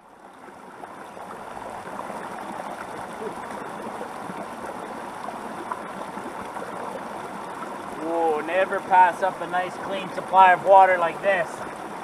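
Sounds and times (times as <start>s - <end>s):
creek water flowing over stones: 0.0s - 12.0s.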